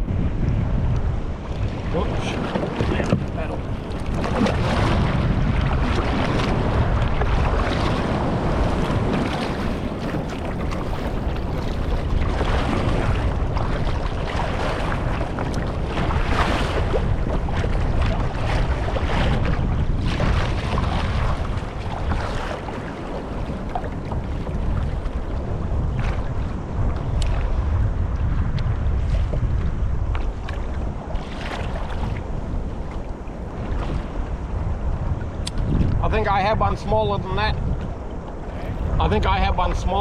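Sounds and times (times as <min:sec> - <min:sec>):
water slapping against kayak hull: 0:00.0 - 0:40.0
wind buffeting microphone: 0:00.0 - 0:40.0.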